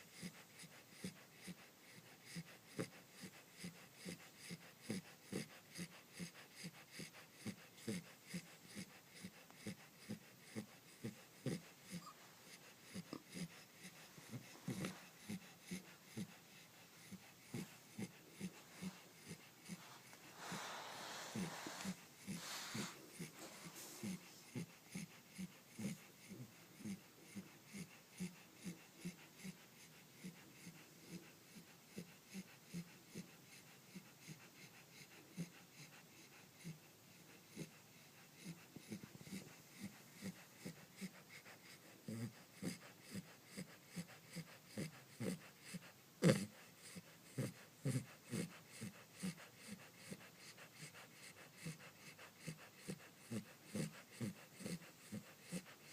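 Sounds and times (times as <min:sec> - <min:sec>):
puppy snoring softly: 0:00.0 - 0:55.9.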